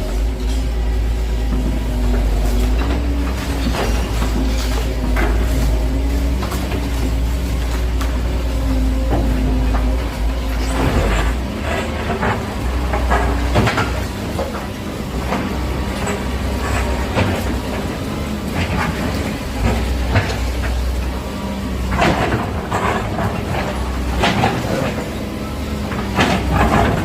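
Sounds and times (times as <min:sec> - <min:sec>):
demolition debris clattering: 0:00.0 - 0:27.0
excavator diesel engine running: 0:00.0 - 0:27.0.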